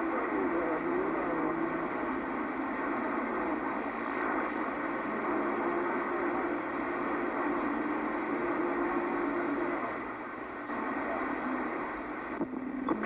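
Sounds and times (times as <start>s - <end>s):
faint wavering radio tone: 0.0s - 13.0s
radio static hiss: 0.0s - 13.0s.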